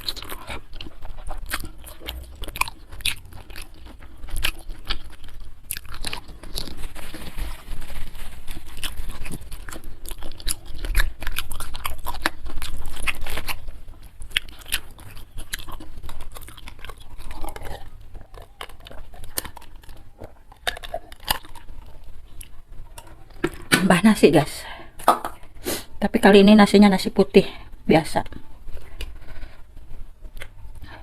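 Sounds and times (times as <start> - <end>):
person chewing crunchy food: 0.0 - 25.9, 27.7 - 31.0.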